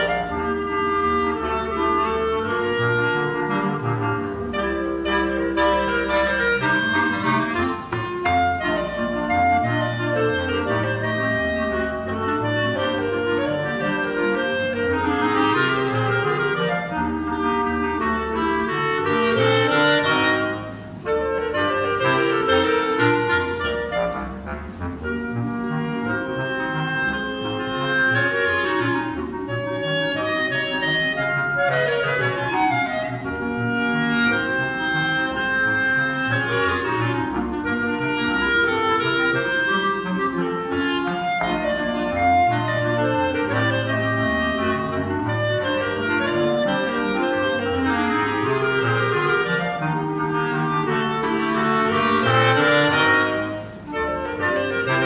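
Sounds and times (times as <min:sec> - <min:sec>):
clarinet ensemble playing: 0:00.0 - 0:55.0.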